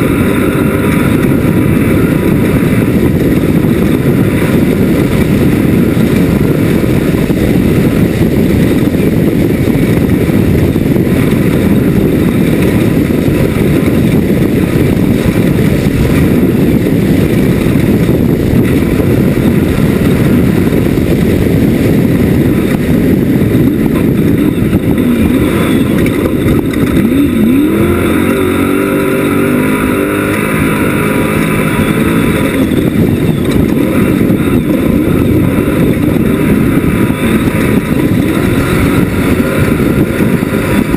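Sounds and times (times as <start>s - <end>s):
race buggy engine running hard: 0.0s - 40.9s.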